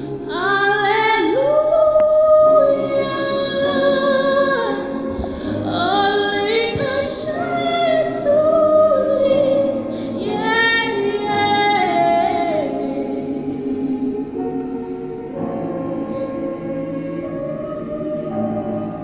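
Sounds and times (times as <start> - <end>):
choir singing: 0.1 - 19.0.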